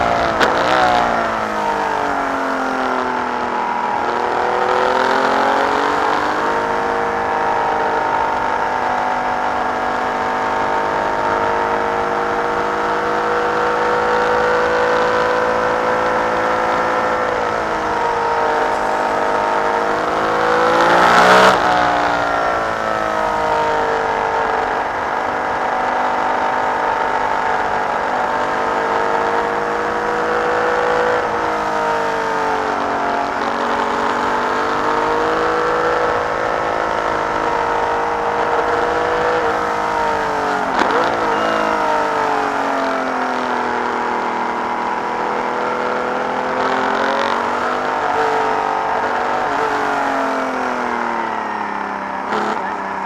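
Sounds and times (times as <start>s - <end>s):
racing engine revving: 0.0s - 53.0s.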